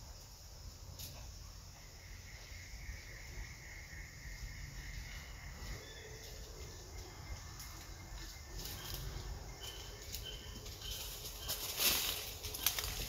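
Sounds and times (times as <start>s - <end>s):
insects buzzing: 0.0s - 13.0s
thin even insect tone: 0.0s - 13.0s.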